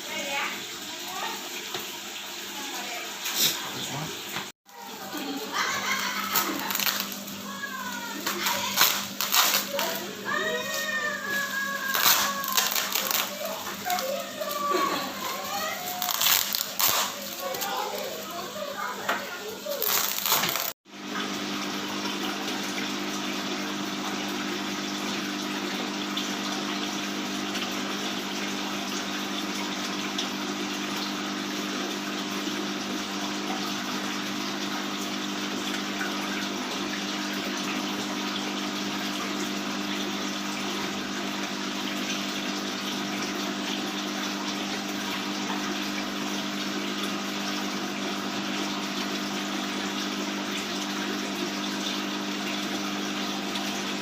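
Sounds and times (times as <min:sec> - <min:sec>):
aquarium pump running: 0:00.0 - 0:54.0.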